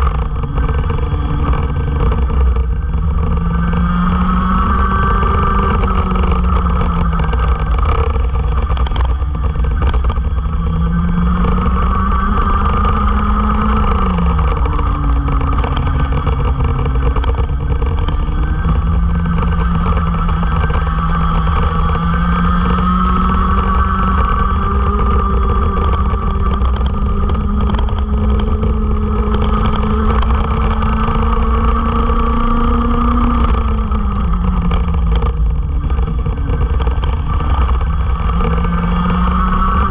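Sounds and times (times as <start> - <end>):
go-kart engine at racing speed: 0.0 - 39.9
low wind rumble on microphone: 0.0 - 39.9.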